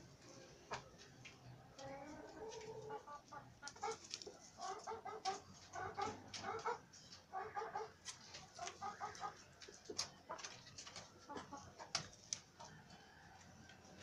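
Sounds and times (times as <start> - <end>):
chicken clucking: 0.4 - 14.0.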